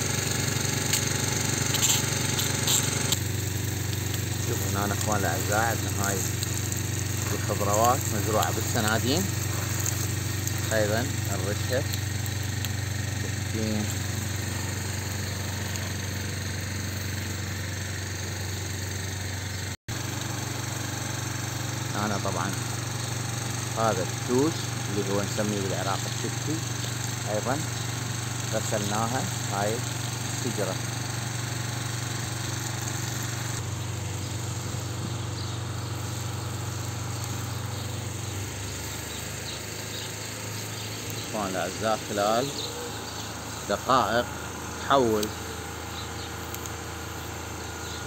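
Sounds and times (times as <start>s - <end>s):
constant hiss: 0.0s - 48.0s
small engine humming: 0.0s - 48.0s.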